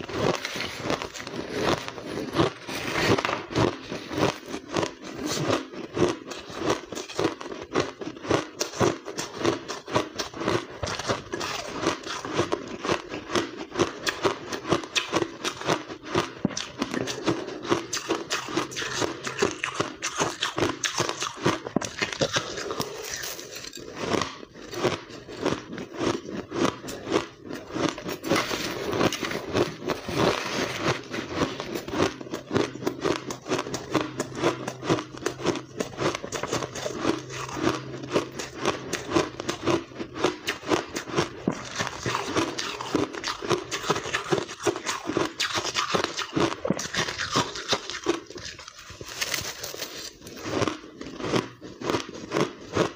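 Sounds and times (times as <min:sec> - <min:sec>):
ice crunching being chewed: 0:00.0 - 0:52.9.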